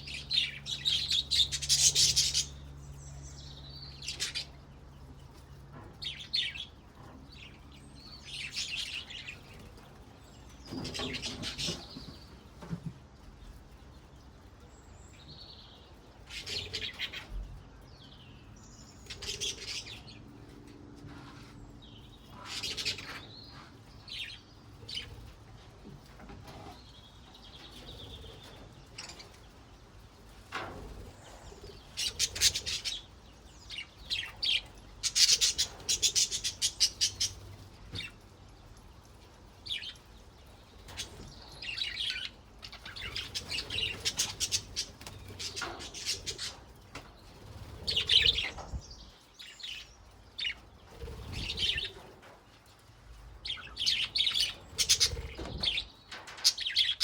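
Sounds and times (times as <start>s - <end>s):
budgerigars chirping and trilling: 0.0s - 9.8s, 10.4s - 12.7s, 14.8s - 20.3s, 21.1s - 25.3s, 30.4s - 38.2s, 39.6s - 52.4s, 53.4s - 57.0s.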